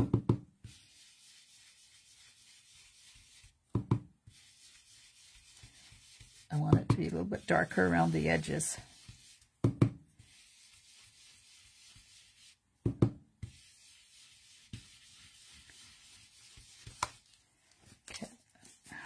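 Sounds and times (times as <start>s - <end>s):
brush rubbing on cardstock: 0.6s - 3.6s, 4.2s - 12.6s, 13.4s - 17.4s.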